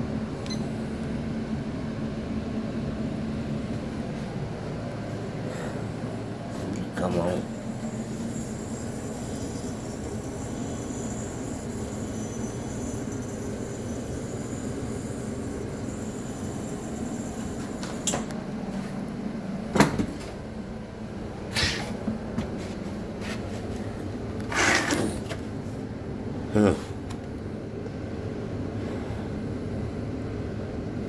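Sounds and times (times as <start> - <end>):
refrigerator fan hum: 0.0 - 31.0.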